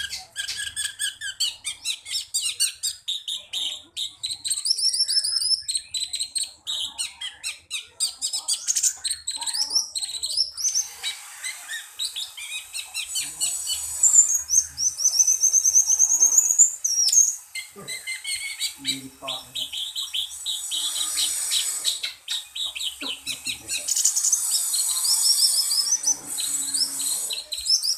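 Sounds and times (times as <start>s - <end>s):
songbird chirping and trilling: 0.0s - 27.9s.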